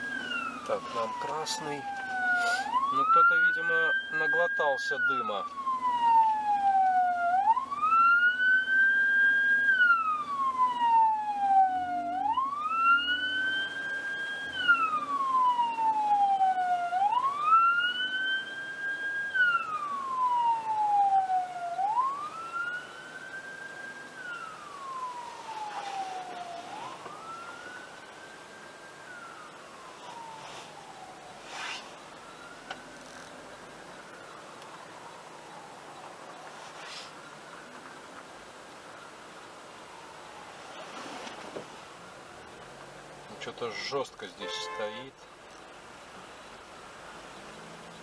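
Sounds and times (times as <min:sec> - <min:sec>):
ambulance siren wailing: 0:00.0 - 0:36.7, 0:39.6 - 0:41.2, 0:43.2 - 0:45.2.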